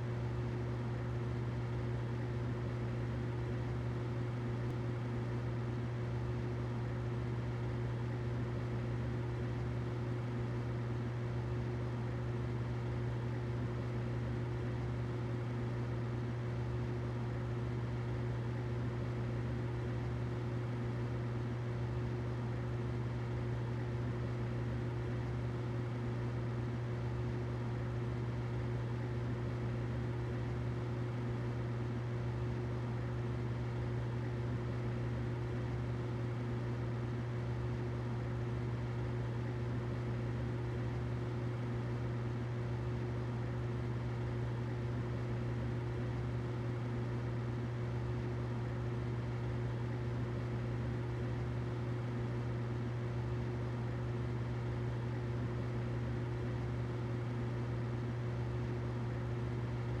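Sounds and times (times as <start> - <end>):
humidifier hum and hiss: 0.0 - 60.0.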